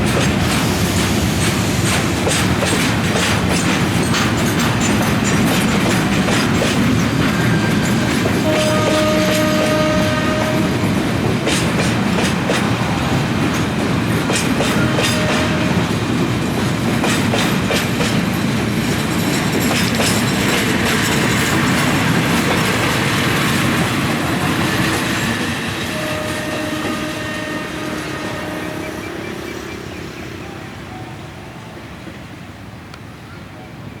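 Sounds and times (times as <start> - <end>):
wheels clacking over rail joints: 0.0 - 30.4
freight train running: 0.0 - 34.0.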